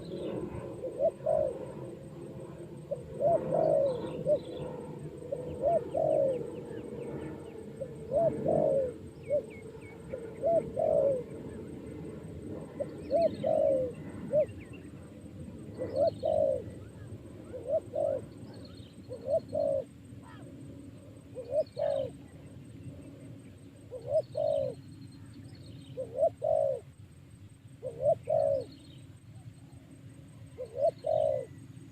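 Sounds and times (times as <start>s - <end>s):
dove cooing: 0.0s - 20.5s, 21.1s - 22.6s, 23.8s - 24.8s, 25.8s - 27.0s, 27.8s - 31.9s
small birds chirping faintly: 0.0s - 31.9s.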